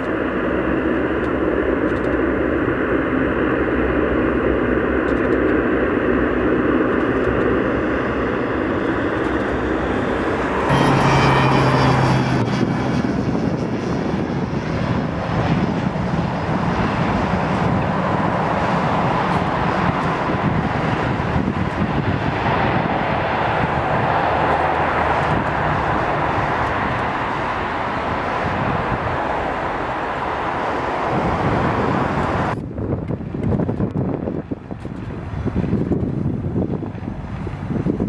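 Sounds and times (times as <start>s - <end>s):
propeller aircraft engine drone: 0.0s - 38.0s.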